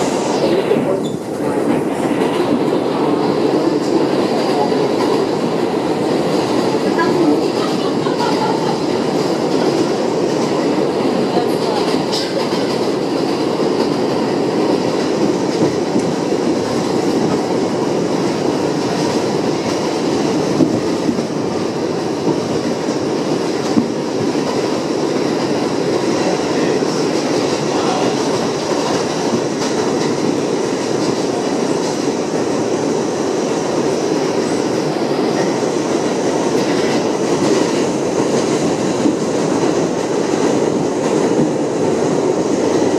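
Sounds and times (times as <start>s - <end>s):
wheel and rail rumble: 0.0s - 42.9s
rail joint clicks: 0.5s - 42.9s.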